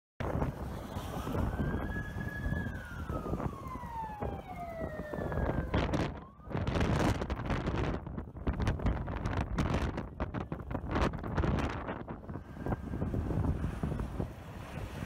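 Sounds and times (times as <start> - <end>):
emergency vehicle siren wailing: 0.2 - 15.0
wind rumbling on microphone: 0.2 - 15.0.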